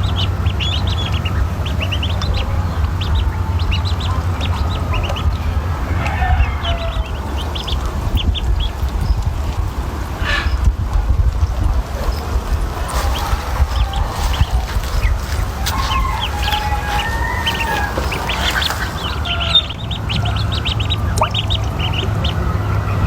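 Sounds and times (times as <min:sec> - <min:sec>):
ducklings peeping: 0:00.0 - 0:23.0
steady low rumble: 0:00.0 - 0:23.0.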